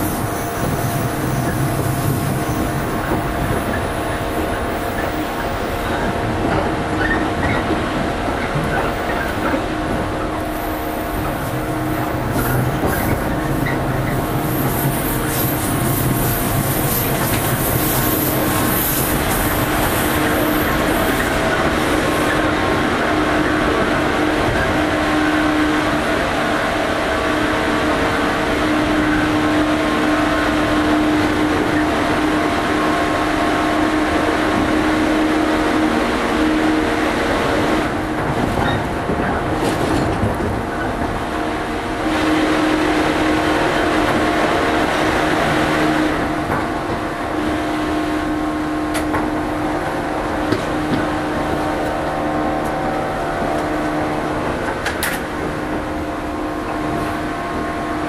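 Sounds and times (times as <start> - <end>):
wheels rushing on rail: 0.0 - 58.0.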